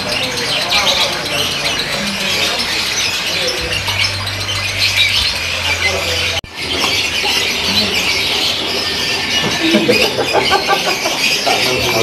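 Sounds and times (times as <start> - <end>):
lovebirds chirping and squawking: 0.0 - 12.0.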